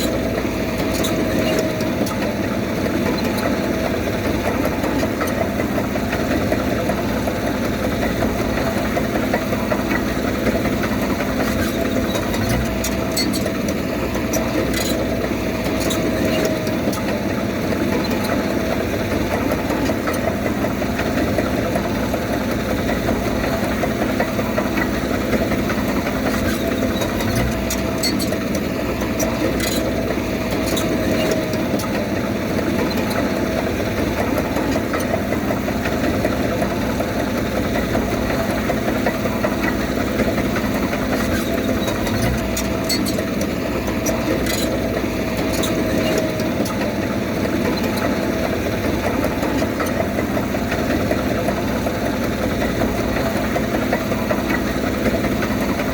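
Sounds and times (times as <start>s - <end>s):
diesel engine of heavy machine: 0.0s - 55.9s.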